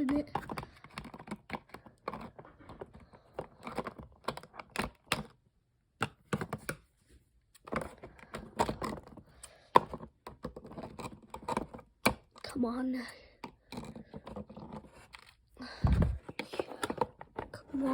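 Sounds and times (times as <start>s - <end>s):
toy packaging clicks and rustles: 0.0s - 5.4s, 7.6s - 17.9s.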